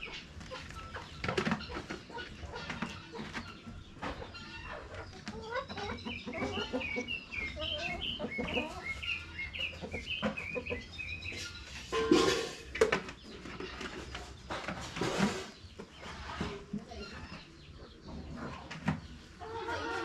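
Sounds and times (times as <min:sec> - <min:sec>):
chickens clucking and peeping: 0:00.0 - 0:20.0.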